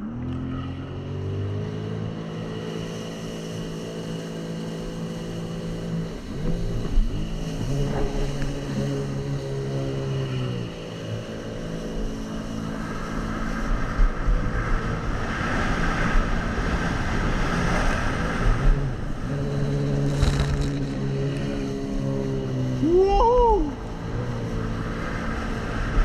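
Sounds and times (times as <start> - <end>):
jet ski engine: 0.0 - 26.0
churned water rushing: 0.8 - 26.0.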